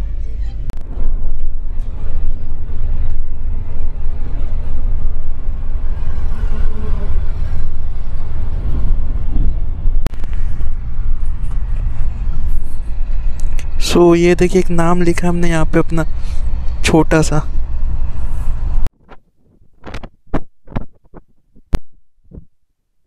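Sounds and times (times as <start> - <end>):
bus engine and road rumble: 0.0 - 22.6.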